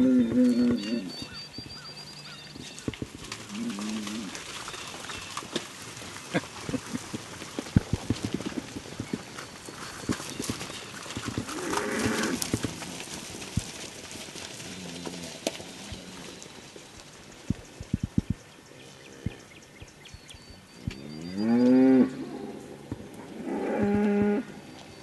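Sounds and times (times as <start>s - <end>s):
cattle hoofbeats in dry grass: 0.0s - 25.0s.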